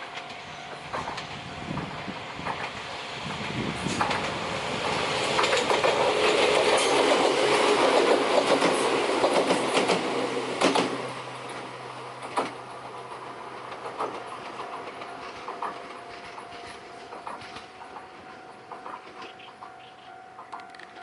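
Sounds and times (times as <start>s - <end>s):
train wheels clattering over rail joints: 0.0s - 21.0s.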